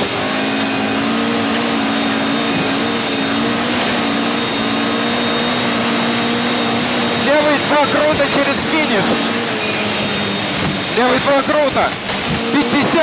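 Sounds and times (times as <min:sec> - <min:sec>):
car engine at high revs: 0:00.0 - 0:13.0
gravel road noise: 0:00.0 - 0:13.0.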